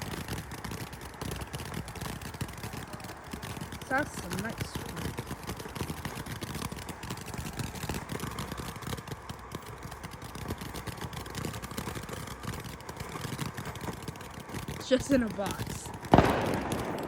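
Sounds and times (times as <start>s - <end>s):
firework fountain hissing and crackling: 0.0s - 17.0s.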